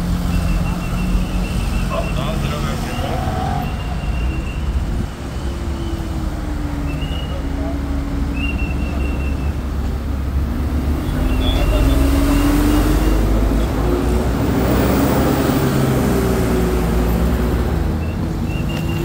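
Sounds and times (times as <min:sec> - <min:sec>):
car engines rumbling: 0:00.0 - 0:19.0
road noise: 0:00.0 - 0:19.0.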